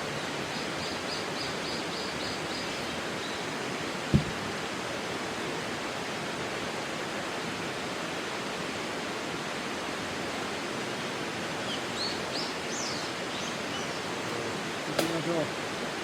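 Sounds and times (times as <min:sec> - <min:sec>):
outdoor rushing hiss: 0:01.1 - 0:16.0.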